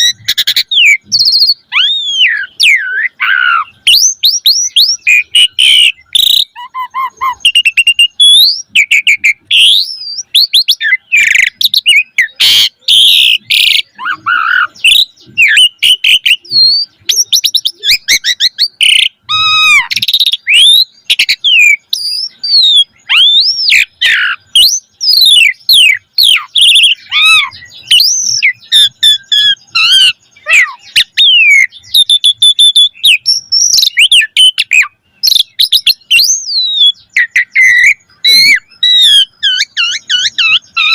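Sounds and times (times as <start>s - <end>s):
starling singing whistles: 0.0s - 40.9s.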